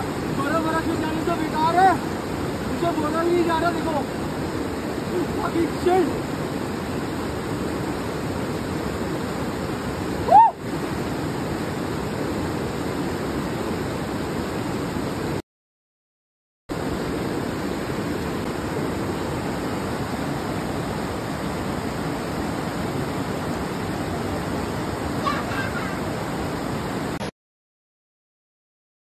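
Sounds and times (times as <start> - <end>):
river rapids rushing over rocks: 0.0 - 15.3, 16.8 - 27.2.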